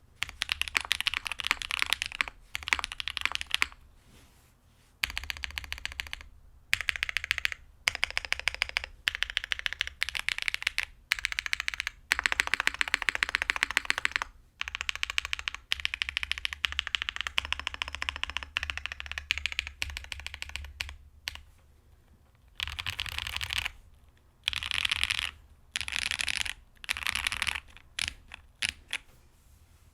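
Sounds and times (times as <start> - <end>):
typing on mechanical keyboard: 0.2 - 3.8, 5.0 - 21.5, 22.4 - 23.8, 24.4 - 29.0.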